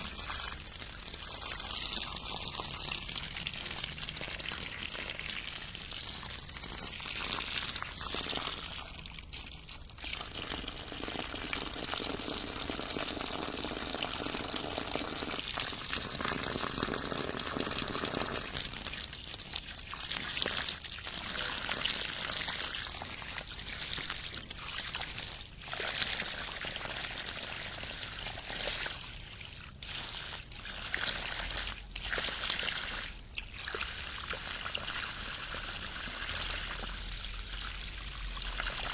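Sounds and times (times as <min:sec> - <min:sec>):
water trickling and rippling: 0:00.0 - 0:38.9.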